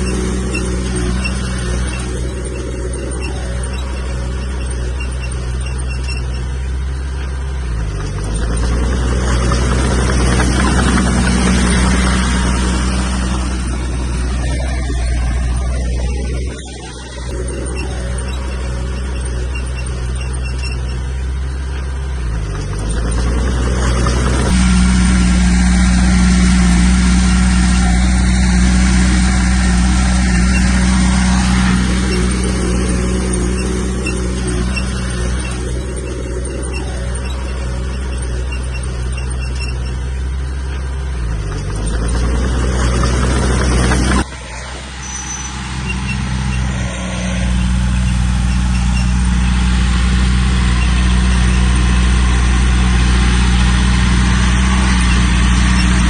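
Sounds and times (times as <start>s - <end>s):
heavy diesel engines working: 0.0s - 56.0s.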